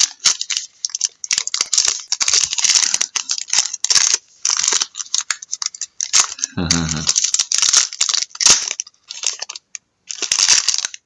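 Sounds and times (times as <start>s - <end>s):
trading cards rustling and clicking: 0.0s - 11.0s.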